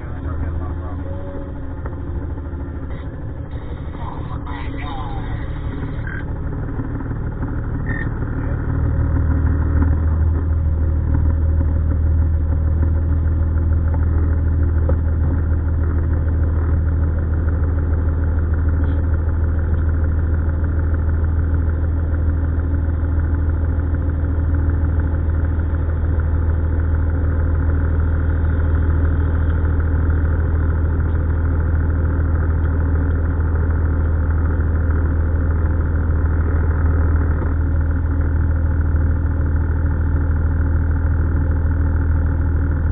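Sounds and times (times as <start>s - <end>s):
vehicle engine idling: 0.0s - 42.9s.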